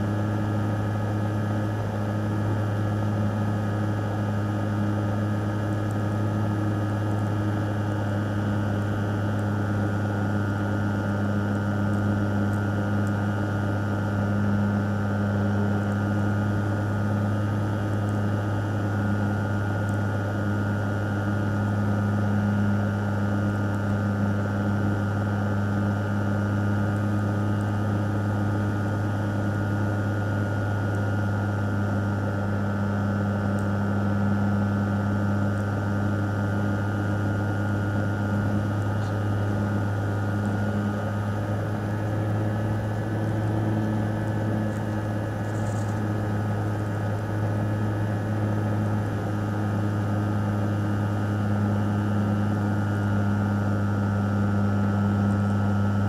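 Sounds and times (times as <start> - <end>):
high steady whine: 0.0 - 56.0.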